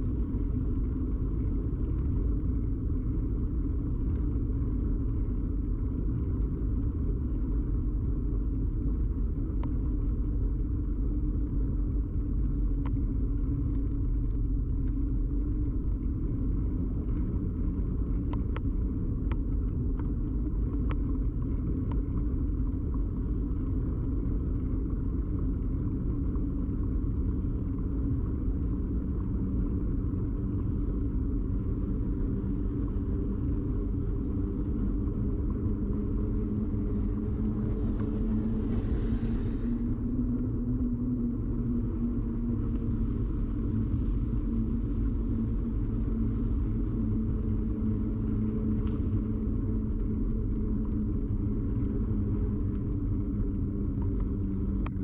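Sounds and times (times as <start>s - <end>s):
bicycle tyre and frame rumble: 0.0s - 55.0s.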